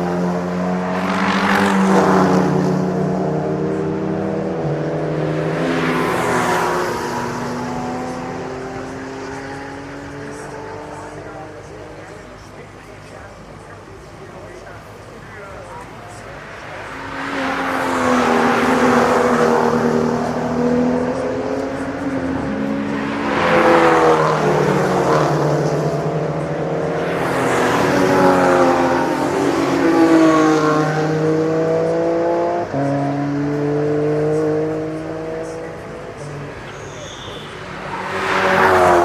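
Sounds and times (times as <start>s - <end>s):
race cars passing at speed: 0.0s - 39.0s.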